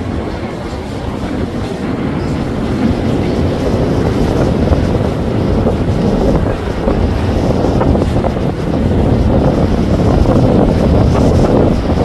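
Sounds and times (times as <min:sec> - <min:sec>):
boat engines running: 0:00.0 - 0:12.0
hull wash splashing: 0:00.0 - 0:12.0
wind buffeting microphone: 0:00.0 - 0:12.0.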